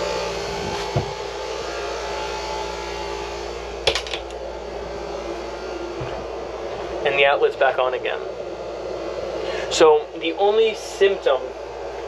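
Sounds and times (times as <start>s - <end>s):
air conditioner whirring: 0.0s - 12.0s.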